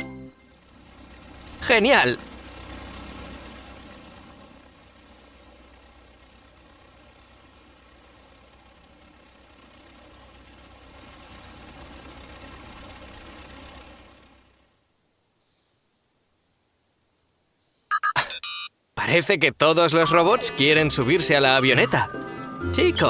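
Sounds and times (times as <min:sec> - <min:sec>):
cartoon vehicle engine: 0:00.0 - 0:14.8, 0:17.9 - 0:23.0.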